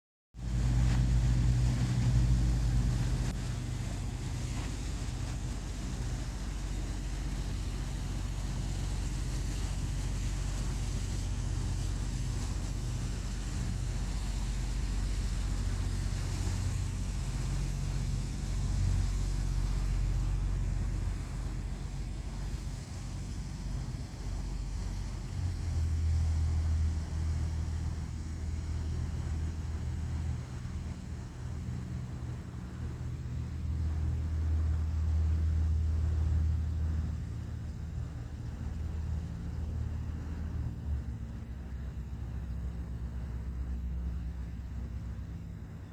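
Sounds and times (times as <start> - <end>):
boat engine rumble: 0.3 - 45.9.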